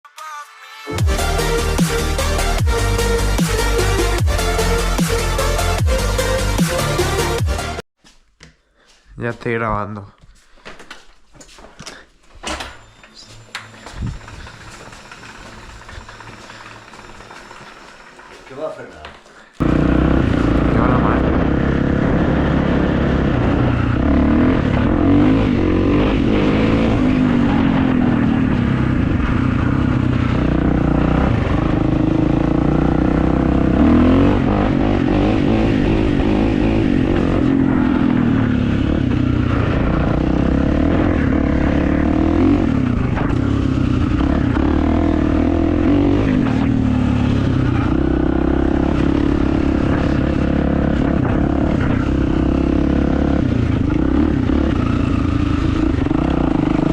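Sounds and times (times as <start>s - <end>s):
motorcycle engine revving: 1.0s - 7.8s, 13.3s - 56.9s.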